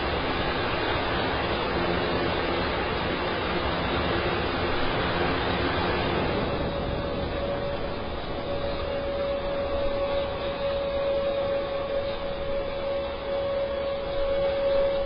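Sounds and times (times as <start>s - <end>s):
turboprop engine whine: 0.0s - 15.0s.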